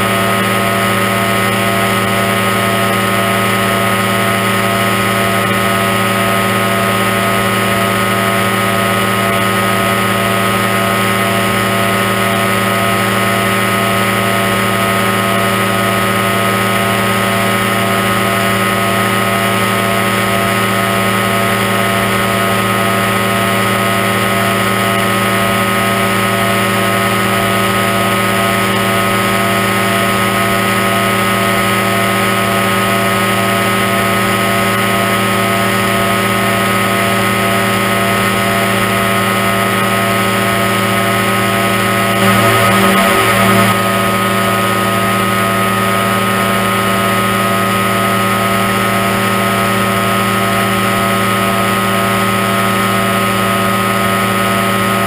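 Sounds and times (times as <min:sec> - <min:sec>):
microlight engine and propeller drone: 0:00.0 - 0:55.0.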